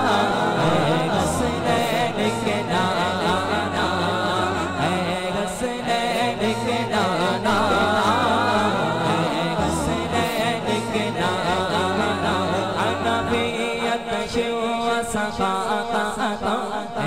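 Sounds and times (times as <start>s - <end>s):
man singing with echo: 0.0s - 17.0s.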